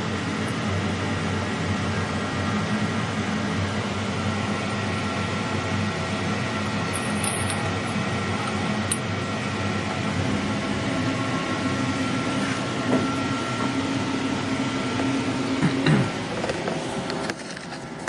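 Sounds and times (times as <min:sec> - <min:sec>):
machine whining tones: 0:00.0 - 0:17.1
lathe machine hum: 0:00.0 - 0:18.0.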